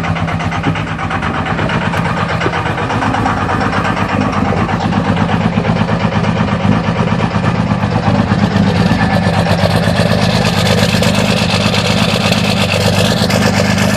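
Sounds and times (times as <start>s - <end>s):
diesel engine idling with clatter: 0.0s - 13.9s.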